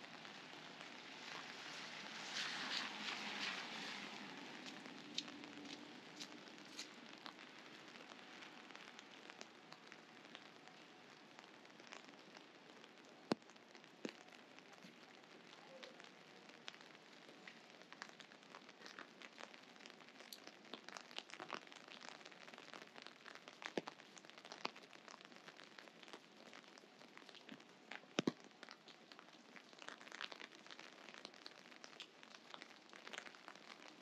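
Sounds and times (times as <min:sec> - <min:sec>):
light rain hiss: 0:00.0 - 0:34.0
raindrops ticking: 0:00.0 - 0:34.0.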